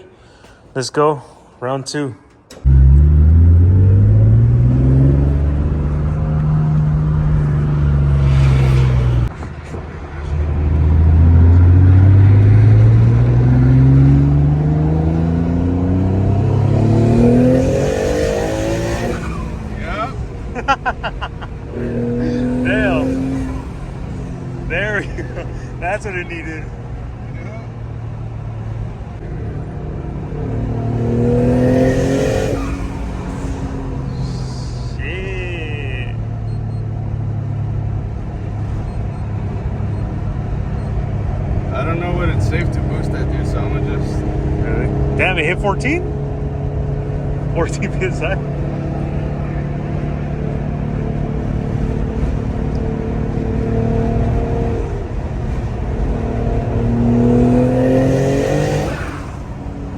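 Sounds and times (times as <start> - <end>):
car engine accelerating hard: 2.5 - 59.9.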